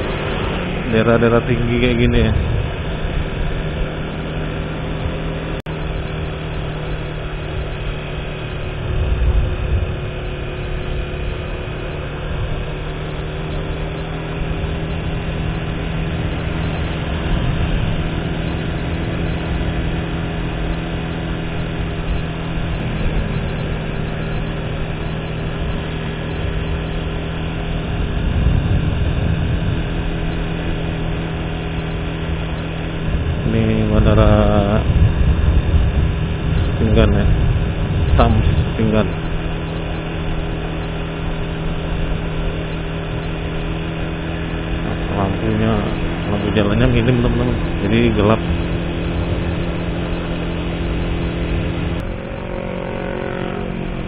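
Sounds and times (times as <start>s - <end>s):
motorcycle engine cruising: 0.0s - 54.0s
wind rumble on microphone: 0.0s - 54.0s.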